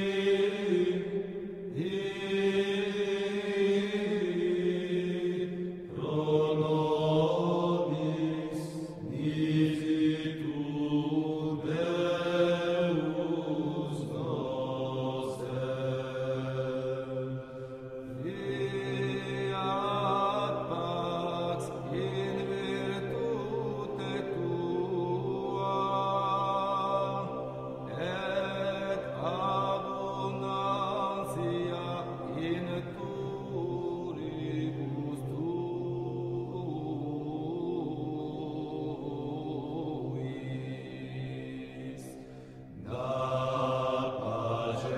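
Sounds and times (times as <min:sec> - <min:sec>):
layered chant-like voices: 0:00.0 - 0:44.9.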